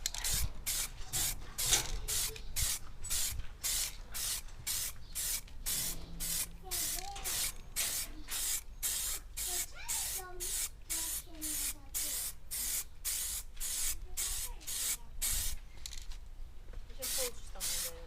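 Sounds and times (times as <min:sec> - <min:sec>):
spray can hissing bursts: 0:00.2 - 0:15.6, 0:17.0 - 0:18.0.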